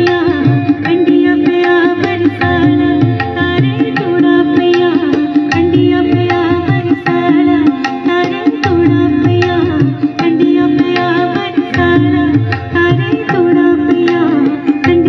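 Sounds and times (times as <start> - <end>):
tabla strokes: 0.0 - 15.0
woman singing: 0.0 - 15.0.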